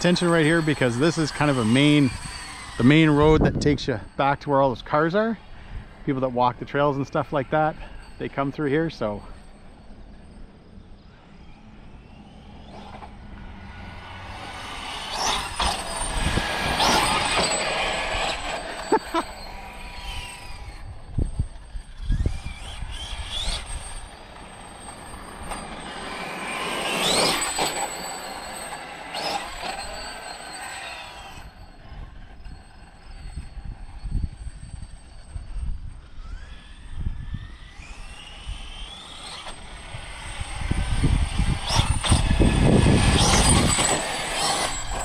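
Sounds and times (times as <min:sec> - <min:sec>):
rc truck motor whine: 0:00.0 - 0:45.0.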